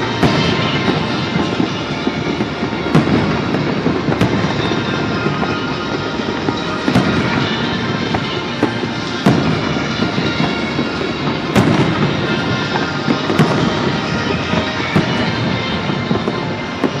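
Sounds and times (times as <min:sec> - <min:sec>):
fireworks bangs: 0:00.0 - 0:17.0
music: 0:00.0 - 0:17.0
rumble and crackle of fireworks: 0:00.0 - 0:17.0.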